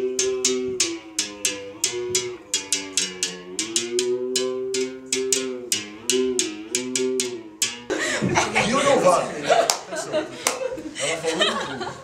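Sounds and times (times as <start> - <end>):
berimbau playing: 0.0 - 10.5.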